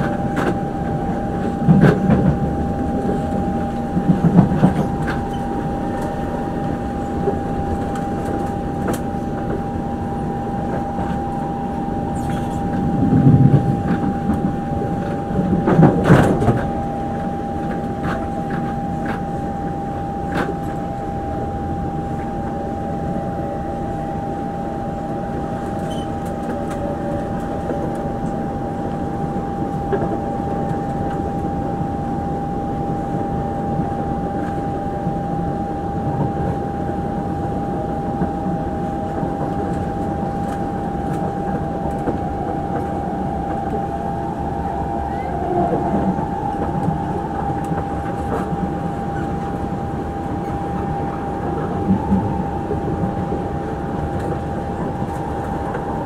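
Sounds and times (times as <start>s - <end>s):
constant whine: 0.0s - 56.0s
train wheels rumbling on rails: 0.0s - 56.0s.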